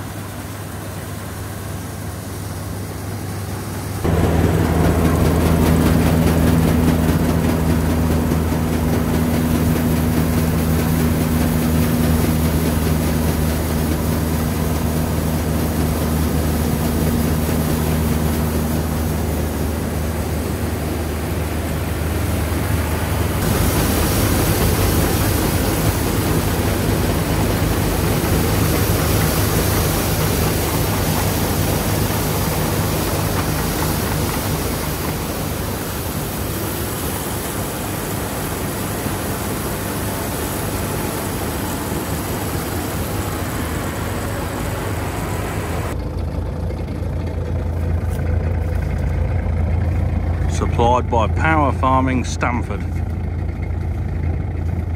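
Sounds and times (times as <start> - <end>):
combine harvester engine hum: 0.0 - 54.9
rushing noise of harvesting machine: 0.0 - 54.9.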